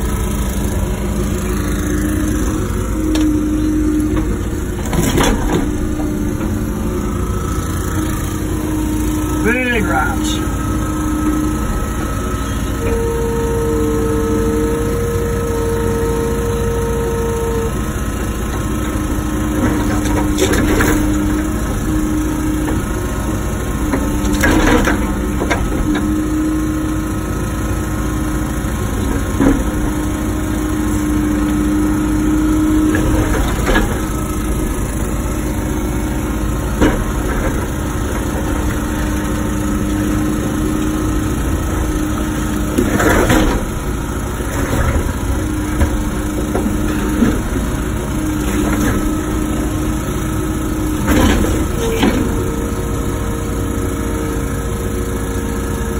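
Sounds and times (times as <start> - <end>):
excavator engine running: 0.0 - 55.9
hydraulic whine: 0.0 - 55.9.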